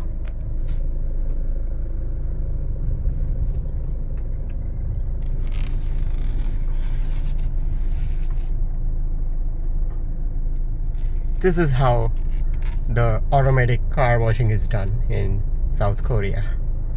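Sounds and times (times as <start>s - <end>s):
car rumble inside cabin: 0.0s - 16.9s.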